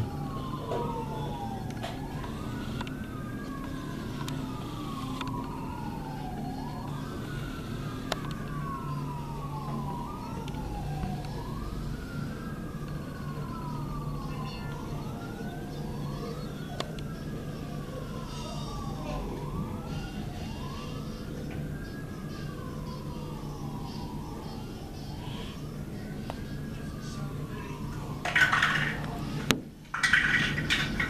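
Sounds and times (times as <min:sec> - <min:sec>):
low engine hum: 0:00.0 - 0:28.2
siren wailing: 0:00.0 - 0:31.0.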